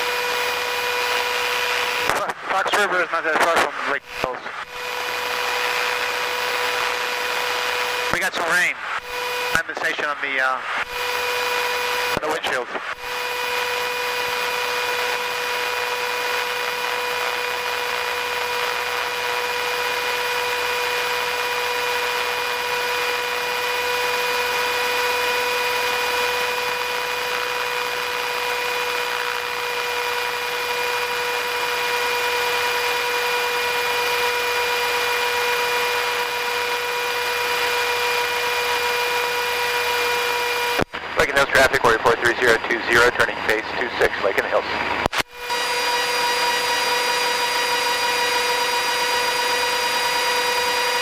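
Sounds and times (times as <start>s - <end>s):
propeller whine: 0.0s - 51.0s.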